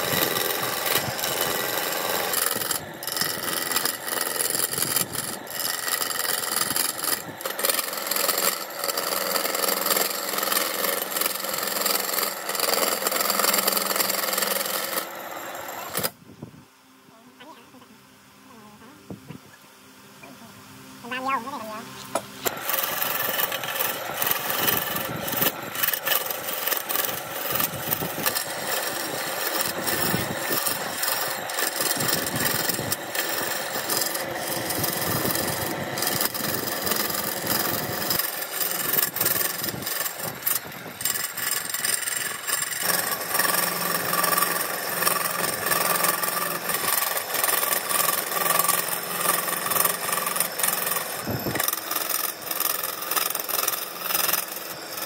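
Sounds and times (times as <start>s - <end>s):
lathe motor hum: 0.0s - 16.2s, 22.4s - 55.0s
turning tool scraping wood: 0.0s - 16.2s, 21.9s - 55.0s.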